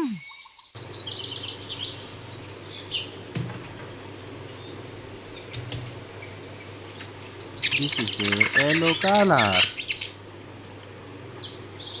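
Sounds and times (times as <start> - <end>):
birds chirping and singing: 0.0 - 12.0
outdoor background hiss: 0.8 - 12.0.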